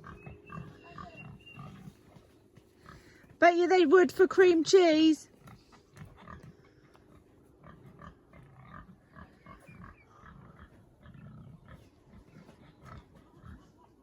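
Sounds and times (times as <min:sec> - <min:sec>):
pigs grunting: 0:00.0 - 0:03.3, 0:05.3 - 0:14.0.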